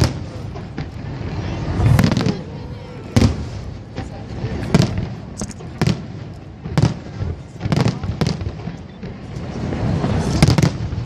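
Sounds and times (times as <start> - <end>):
fireworks booming: 0.0 - 11.0
fireworks crackle: 0.0 - 11.0.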